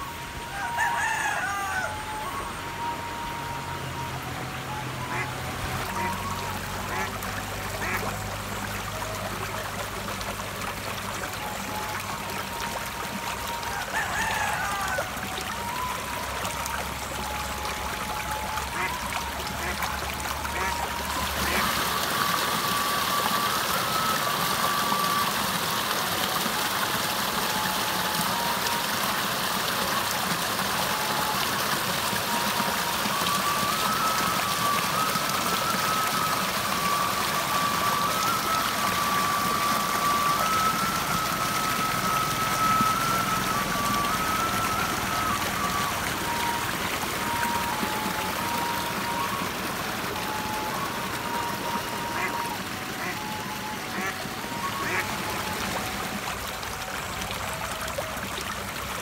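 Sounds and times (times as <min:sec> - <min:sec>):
water rushing down a rocky channel: 0:00.0 - 0:59.0.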